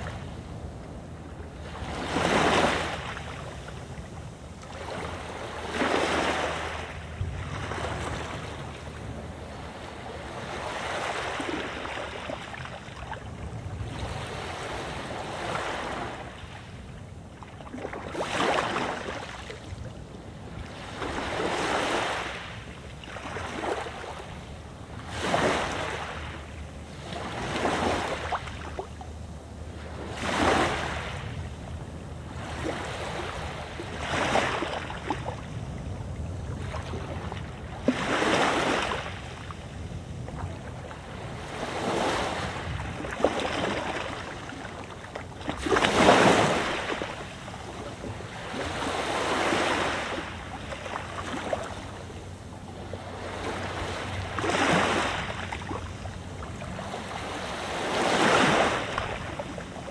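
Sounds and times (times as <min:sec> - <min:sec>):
waves breaking on beach: 0:00.0 - 0:59.9
wind rumble on microphone: 0:00.0 - 0:59.9.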